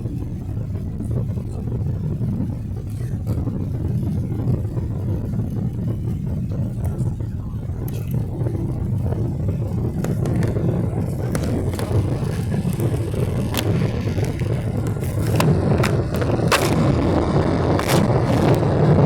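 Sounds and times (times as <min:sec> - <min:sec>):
airplane cabin rumble: 0:00.0 - 0:19.0
sharp clicks and rattles: 0:00.0 - 0:19.0.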